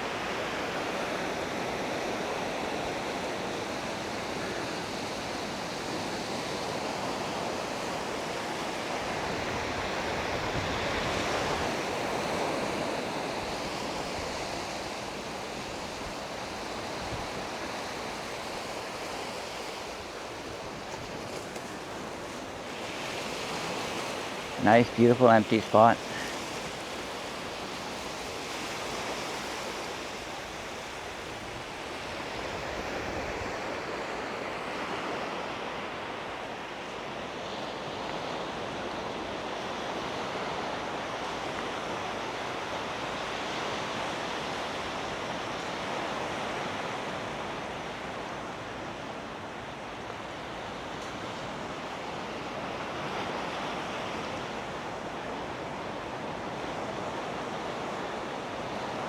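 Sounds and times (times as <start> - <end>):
sea waves washing onto shore: 0.0 - 59.0.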